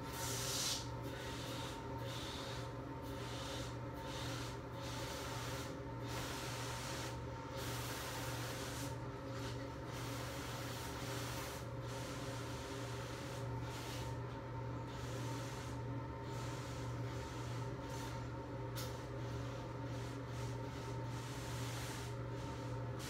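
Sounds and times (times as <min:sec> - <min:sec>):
steady low hum: 0:00.0 - 0:23.0
sponge scrubbing shower wall: 0:03.2 - 0:14.2, 0:14.9 - 0:18.3, 0:18.9 - 0:23.0.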